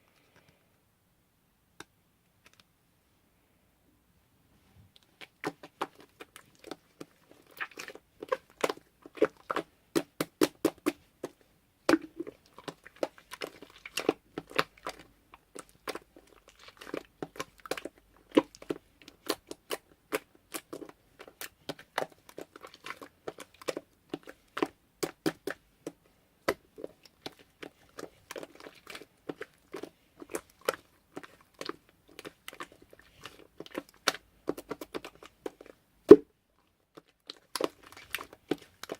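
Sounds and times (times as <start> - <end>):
slime squishing wet pops: 5.0 - 36.3, 36.9 - 38.9.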